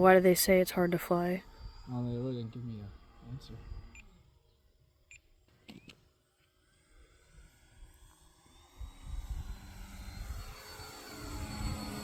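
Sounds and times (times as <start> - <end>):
model plane motor whining: 0.0 - 4.6, 5.7 - 12.0.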